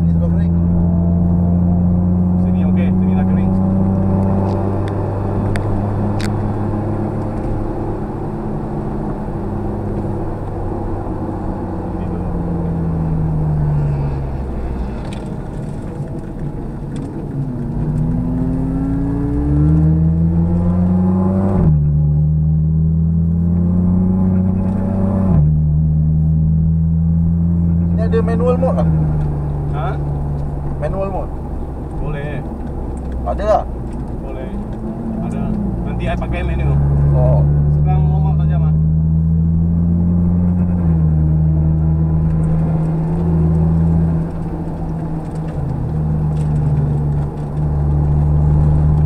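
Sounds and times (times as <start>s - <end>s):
gear changes: 0.0s - 22.4s, 23.0s - 49.0s
car engine from inside cabin: 0.0s - 49.0s.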